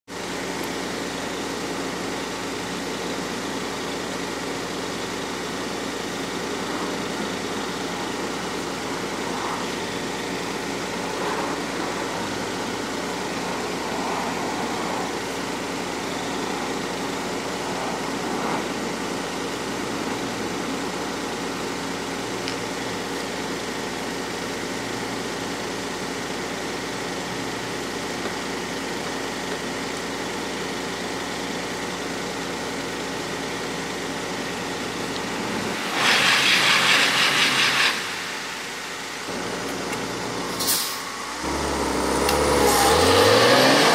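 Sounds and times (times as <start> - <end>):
vehicle engine idling: 0.1 - 37.2, 37.9 - 43.8.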